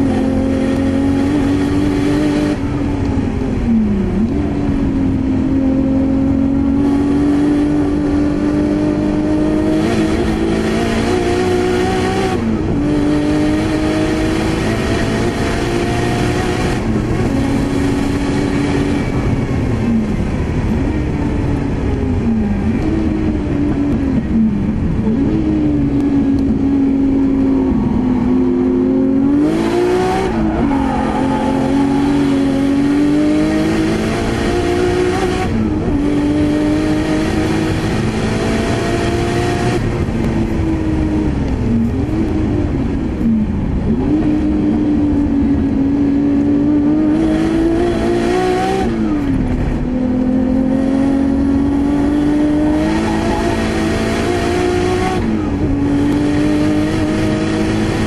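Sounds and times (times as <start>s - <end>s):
racing car engine revving: 0.0s - 20.8s, 22.2s - 58.0s.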